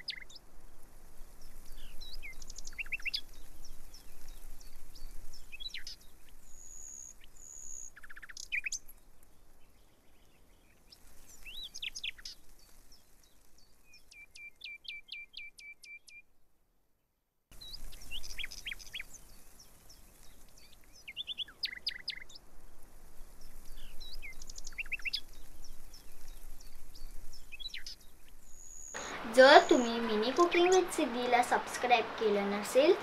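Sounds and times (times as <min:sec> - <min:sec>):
small birds chirping: 0:00.0 - 0:00.5, 0:01.2 - 0:16.2, 0:17.5 - 0:33.0.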